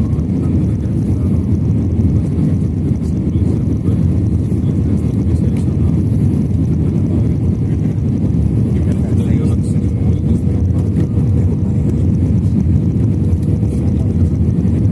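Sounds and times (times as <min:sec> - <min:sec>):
airliner engine rumble: 0:00.0 - 0:14.9.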